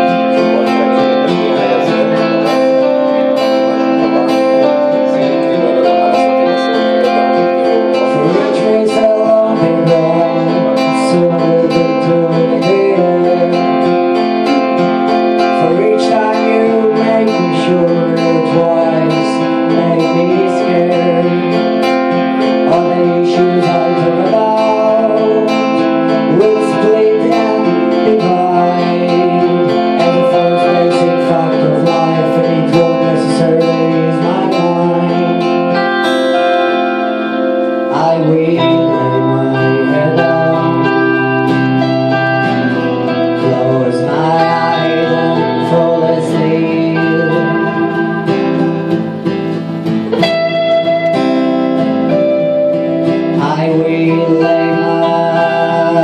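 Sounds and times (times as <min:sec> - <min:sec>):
acoustic guitar strumming: 0:00.0 - 0:56.0
electric guitar melody: 0:00.0 - 0:56.0.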